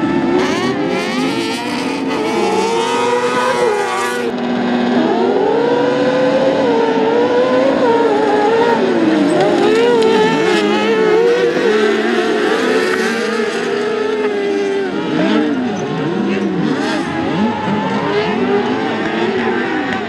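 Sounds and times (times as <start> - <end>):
racing buggy engines revving: 0.0 - 20.0.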